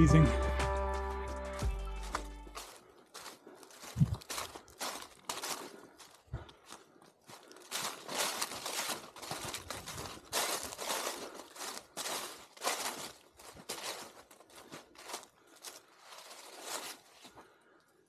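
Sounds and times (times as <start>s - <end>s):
footsteps crunching dry leaves: 1.7s - 17.6s.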